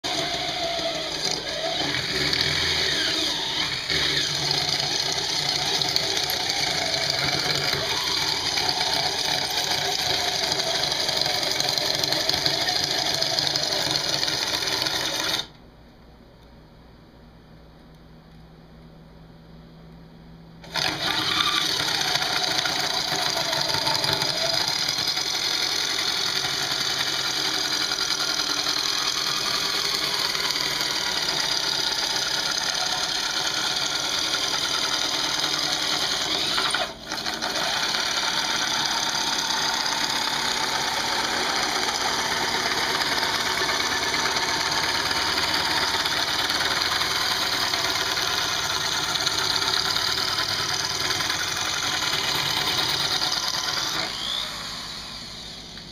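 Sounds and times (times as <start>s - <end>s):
electric drill motor running: 0.0s - 15.6s, 20.6s - 55.9s.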